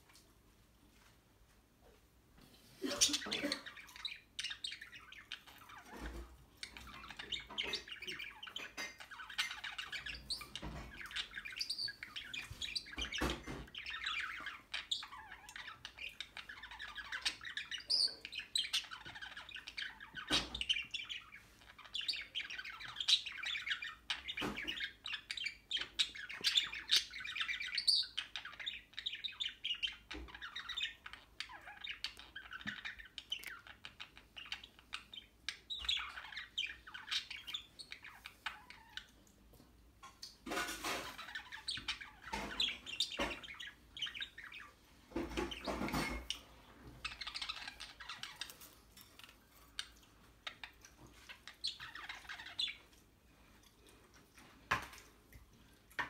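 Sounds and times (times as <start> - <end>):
budgerigars warbling and chirping: 2.7 - 54.0.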